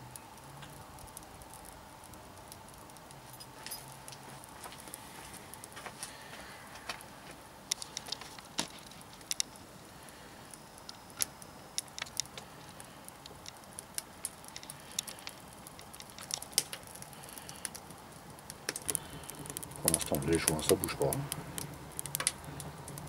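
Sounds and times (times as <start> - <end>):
faint steady hiss: 0.0 - 23.0
wood fire crackling and popping: 0.0 - 23.0.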